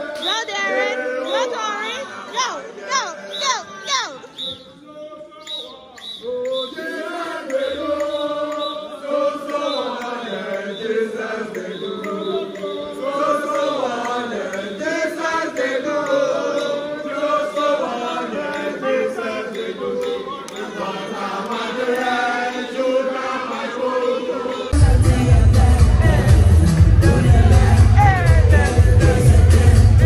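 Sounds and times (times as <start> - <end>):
group of voices singing: 0.0 - 30.0.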